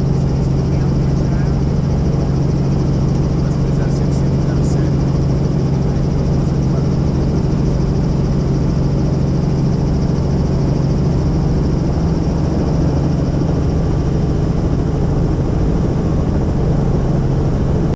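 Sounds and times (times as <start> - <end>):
helicopter engine and rotor drone: 0.0 - 17.9.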